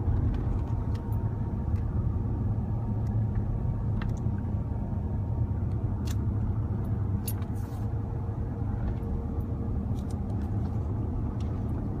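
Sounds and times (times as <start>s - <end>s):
low road and drivetrain rumble: 0.0s - 12.0s.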